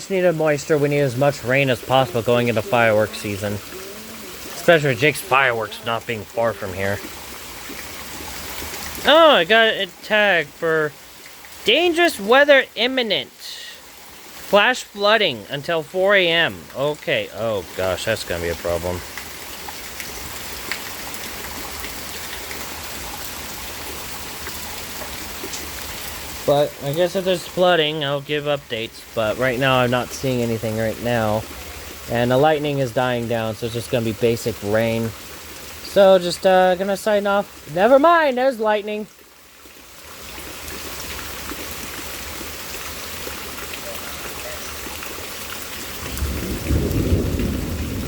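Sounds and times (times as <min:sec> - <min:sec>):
steady rain falling: 0:00.0 - 0:48.0.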